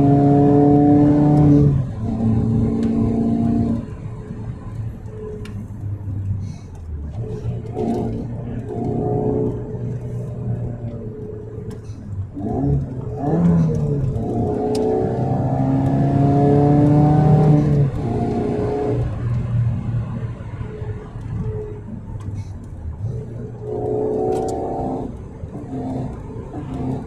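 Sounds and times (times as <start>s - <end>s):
car engine pulling under load: 0.0s - 27.0s.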